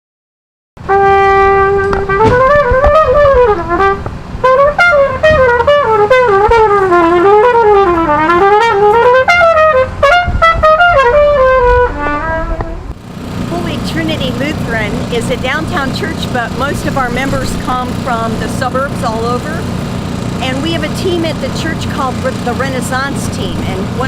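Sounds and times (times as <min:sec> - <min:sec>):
solo brass melody: 0:00.8 - 0:24.0.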